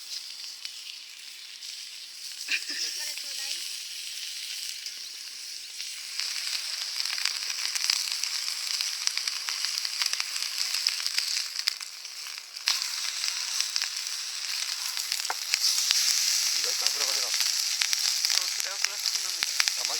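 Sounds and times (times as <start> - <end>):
bacon sizzling in a pan: 0.0 - 19.9
crackling pops: 0.0 - 19.9.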